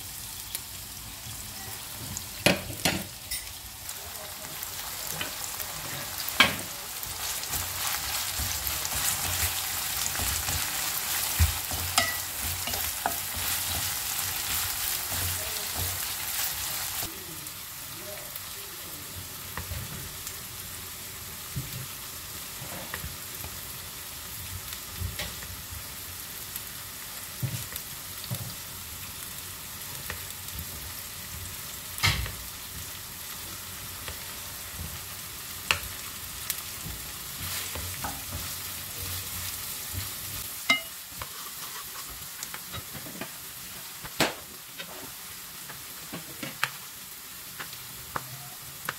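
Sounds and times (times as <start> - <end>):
onions sizzling in frying pan: 0.0 - 48.9.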